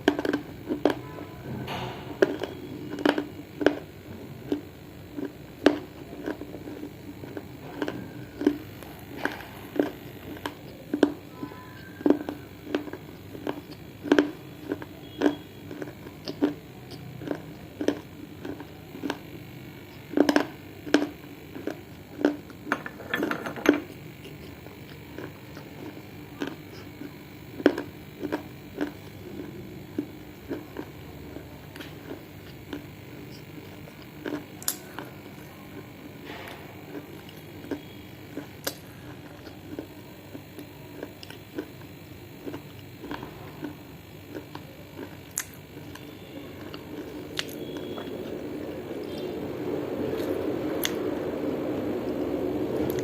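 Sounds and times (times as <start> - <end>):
crunching while chewing: 0.0 - 53.0.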